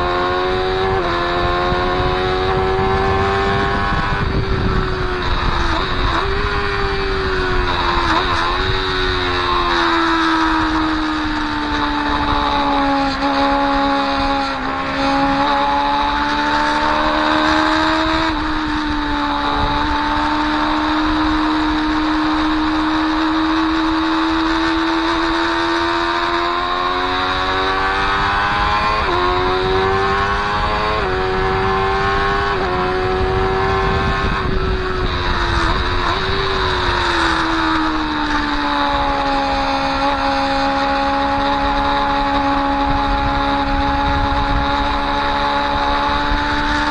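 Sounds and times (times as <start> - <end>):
motorcycle engine at high revs: 0.0 - 46.9
wind noise: 0.0 - 46.9.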